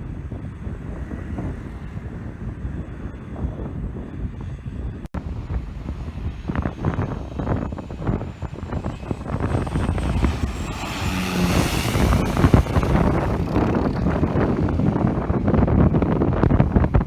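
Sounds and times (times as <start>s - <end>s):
wind buffeting microphone: 0.0s - 17.0s
small aircraft engine passing: 0.2s - 17.0s.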